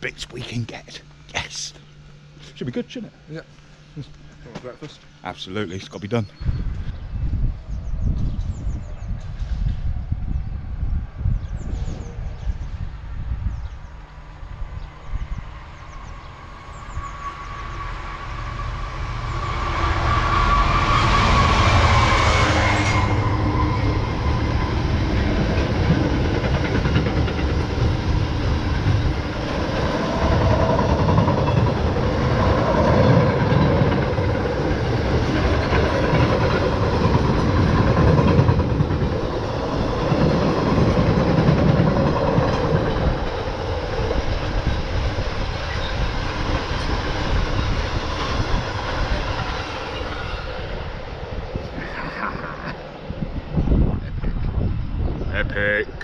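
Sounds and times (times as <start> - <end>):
wheels rumbling on rails: 4.1 - 56.0
train passing at speed: 6.5 - 56.0.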